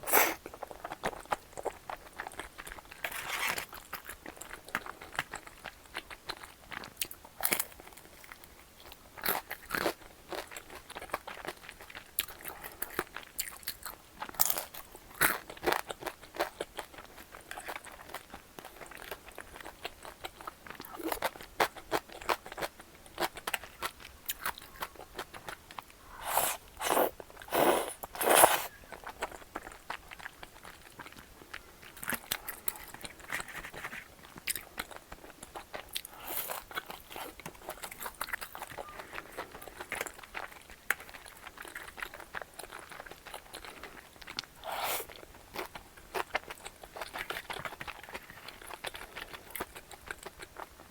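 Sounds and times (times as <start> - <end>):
chewing and crunching: 0.0 - 50.9.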